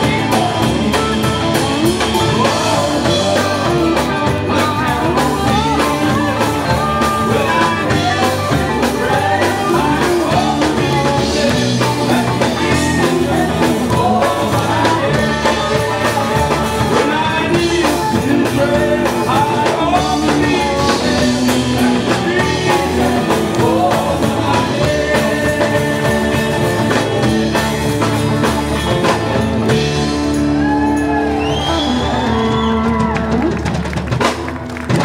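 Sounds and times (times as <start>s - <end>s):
man singing: 0.0s - 29.9s
drum kit: 0.0s - 35.0s.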